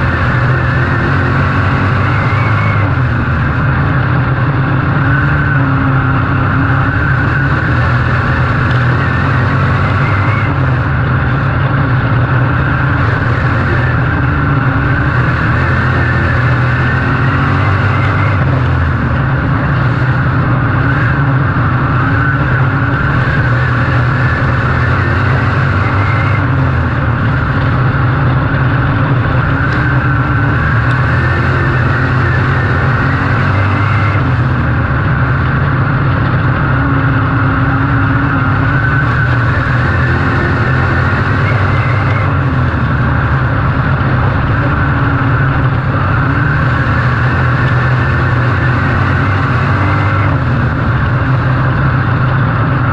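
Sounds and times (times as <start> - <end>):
race car engine running hard: 0.0 - 52.9.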